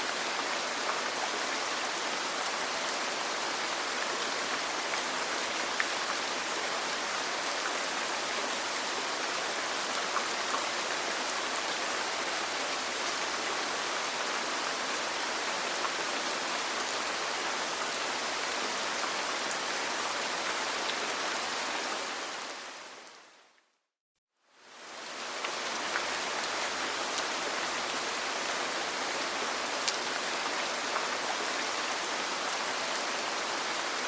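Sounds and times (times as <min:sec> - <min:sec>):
rain falling on a roof: 0:00.0 - 0:23.6, 0:24.5 - 0:34.0.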